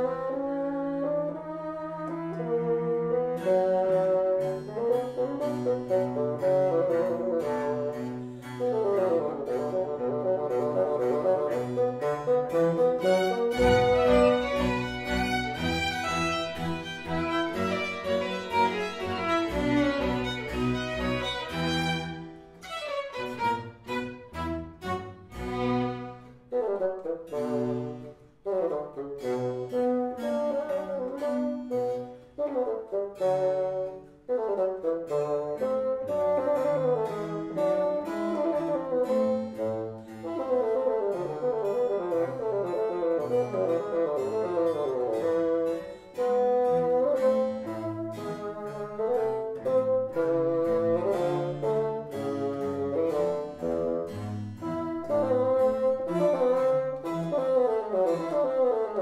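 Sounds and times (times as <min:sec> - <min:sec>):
bowed string melody: 0:00.0 - 0:59.0.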